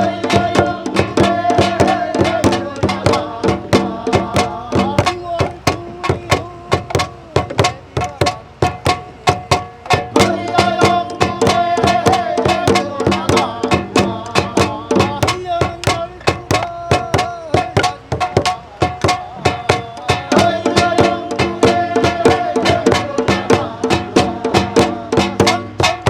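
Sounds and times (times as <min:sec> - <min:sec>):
drums beating fast rhythm: 0:00.0 - 0:26.0.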